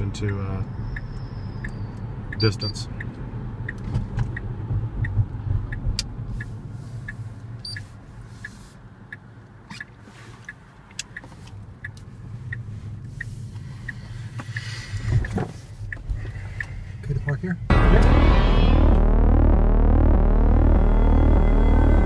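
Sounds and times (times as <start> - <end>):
turn signal ticking: 0.0 - 17.7
road noise: 0.0 - 22.0.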